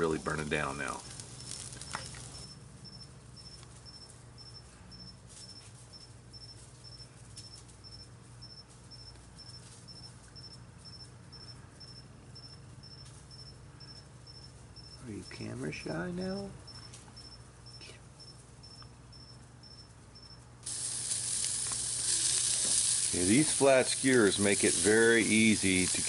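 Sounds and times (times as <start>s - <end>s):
low steady hum: 0.0s - 26.0s
cricket chirping: 1.0s - 15.0s, 16.7s - 23.8s.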